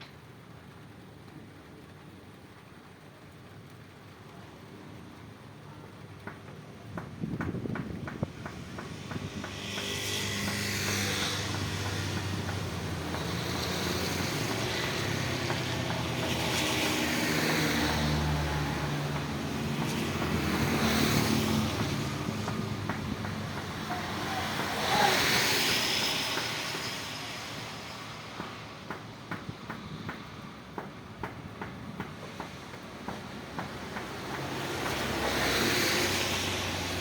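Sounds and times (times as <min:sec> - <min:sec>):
vehicles passing on wet road: 0:00.0 - 0:37.0.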